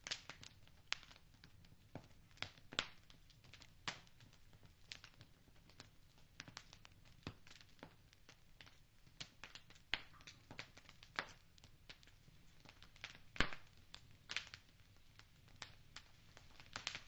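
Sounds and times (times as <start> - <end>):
faint low background hiss: 0.0 - 17.0
wood fire crackling: 0.0 - 17.0.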